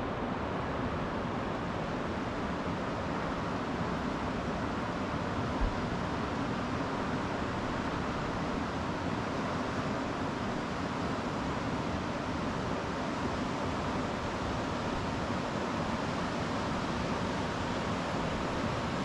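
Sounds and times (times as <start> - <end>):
river water flowing over rocks: 0.1 - 19.0.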